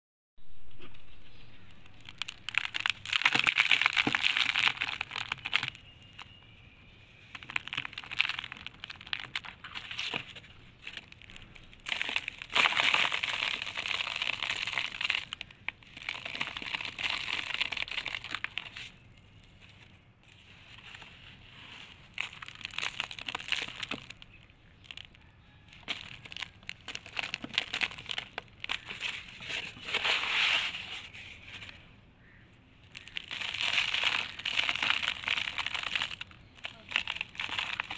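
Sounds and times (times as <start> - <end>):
hands crumbling dry dirt: 1.4 - 6.4, 7.2 - 37.9.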